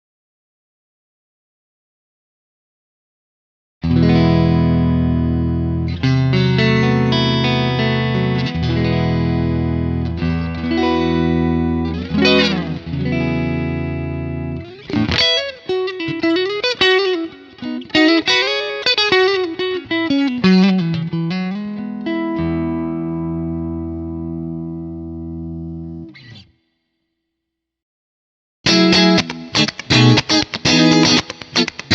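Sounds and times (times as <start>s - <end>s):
electric guitar through amplifier: 3.8s - 26.5s, 28.7s - 31.9s.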